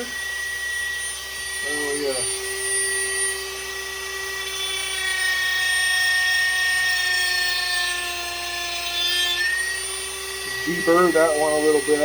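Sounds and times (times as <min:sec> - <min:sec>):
rotary tool whining on wood: 0:00.0 - 0:12.0.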